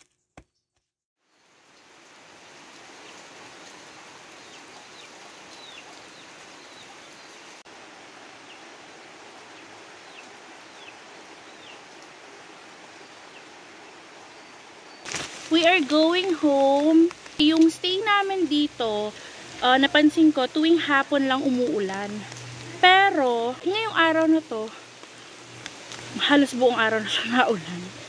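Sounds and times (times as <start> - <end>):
rain on trees and grass: 1.2 - 28.0.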